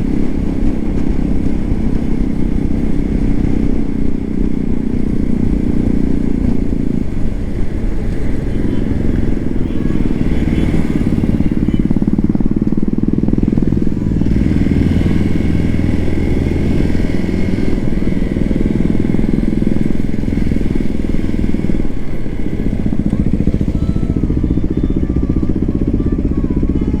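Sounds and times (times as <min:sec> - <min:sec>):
motorcycle engine pulsing exhaust: 0:00.0 - 0:27.0.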